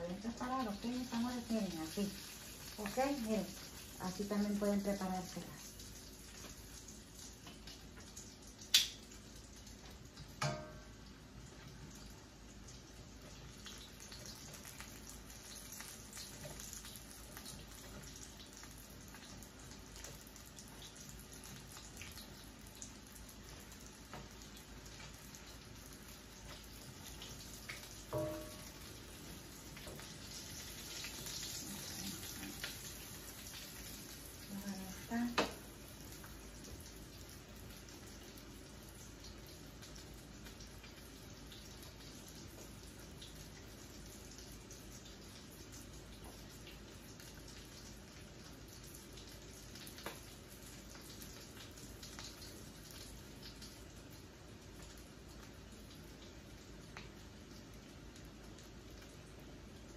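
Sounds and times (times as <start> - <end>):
food frying in hot oil: 0.0 - 59.9.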